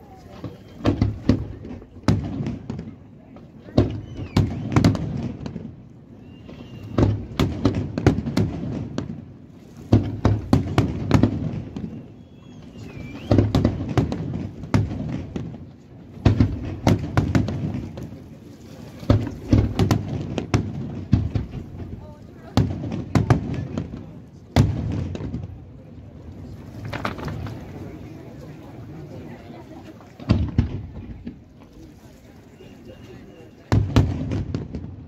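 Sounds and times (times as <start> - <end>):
fireworks bursting with sharp bangs: 0.0 - 29.4, 30.1 - 31.8, 33.1 - 35.0
fireworks rumble: 0.0 - 35.0.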